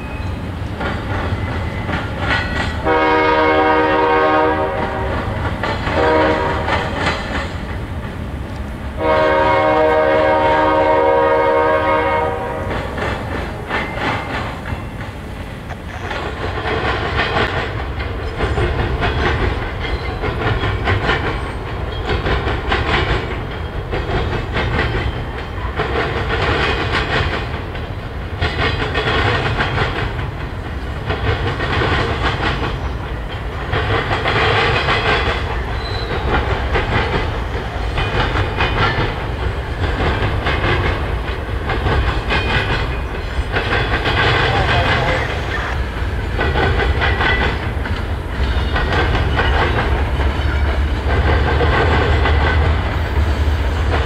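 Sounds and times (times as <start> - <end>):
freight train rumbling: 0.0 - 54.0
wheels clattering on rails: 0.0 - 54.0.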